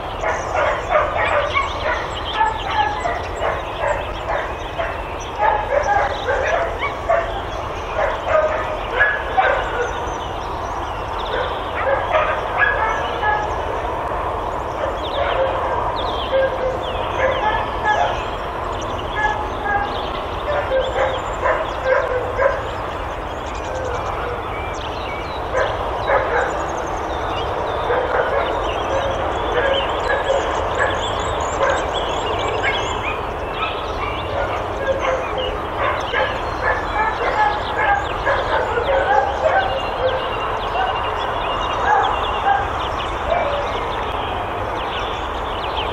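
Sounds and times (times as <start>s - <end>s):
dogs barking: 0.0s - 45.9s.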